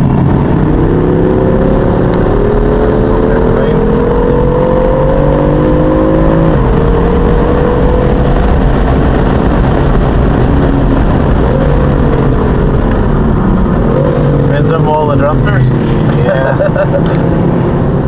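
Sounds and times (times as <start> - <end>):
car engine accelerating: 0.0 - 18.0
road and wind noise: 0.0 - 18.0.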